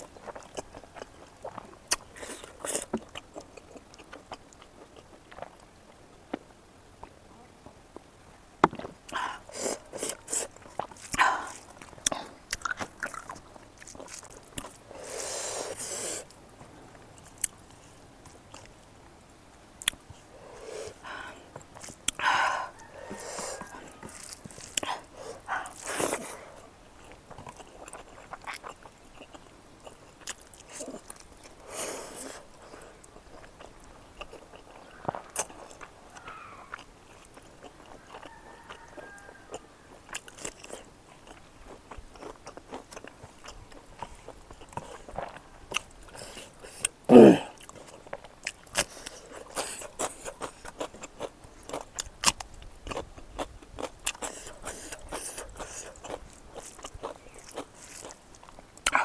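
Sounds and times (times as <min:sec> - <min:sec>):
chewing and biting food: 0:00.0 - 0:07.2, 0:08.7 - 0:16.4, 0:20.9 - 0:59.0.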